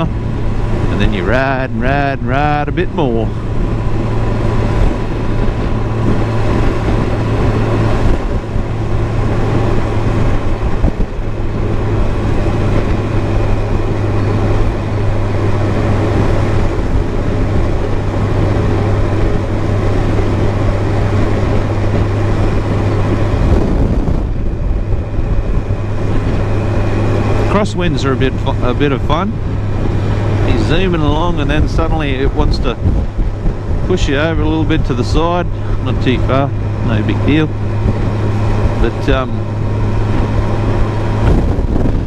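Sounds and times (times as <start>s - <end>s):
motorcycle engine cruising: 0.0s - 42.0s
wind rush: 0.0s - 42.0s.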